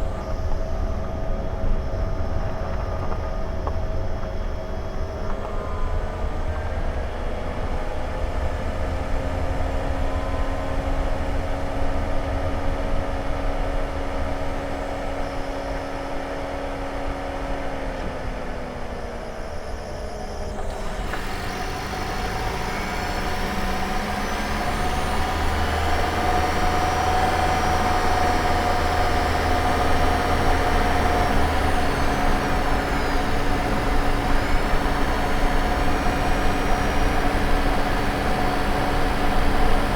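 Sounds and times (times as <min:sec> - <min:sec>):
engine drivetrain rumble with tones: 0:00.0 - 0:39.9.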